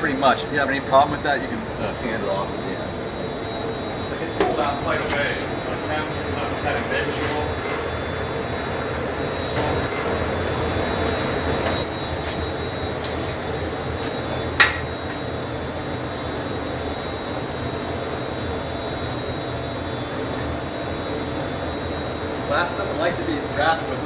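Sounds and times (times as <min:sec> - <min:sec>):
gas burners rushing: 0:00.0 - 0:24.0.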